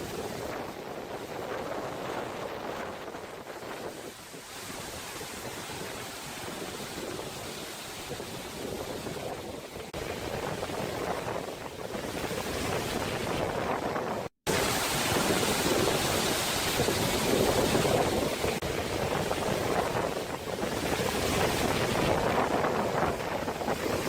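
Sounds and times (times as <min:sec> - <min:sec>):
rushing water: 0:00.0 - 0:24.0
wind buffeting microphone: 0:00.0 - 0:24.0
wind rushing: 0:00.0 - 0:24.0.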